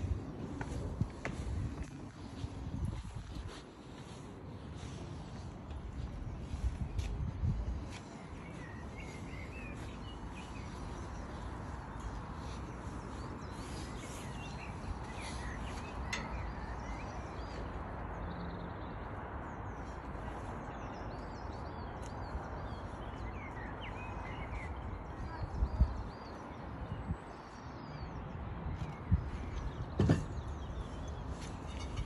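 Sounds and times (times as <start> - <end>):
outdoor background noise: 0.0 - 32.0
small birds chirping: 0.5 - 32.0.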